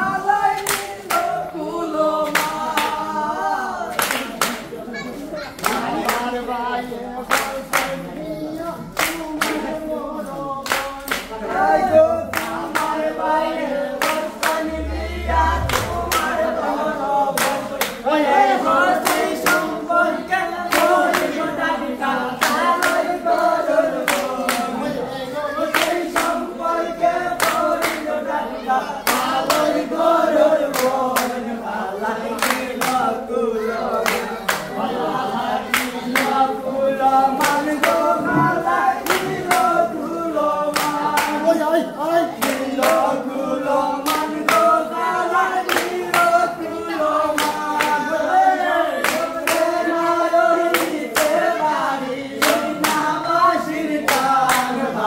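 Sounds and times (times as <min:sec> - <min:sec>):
men singing folk song: 0:00.0 - 0:04.8, 0:05.7 - 0:55.0
hands clapping in rhythm: 0:00.0 - 0:14.8, 0:17.3 - 0:55.0.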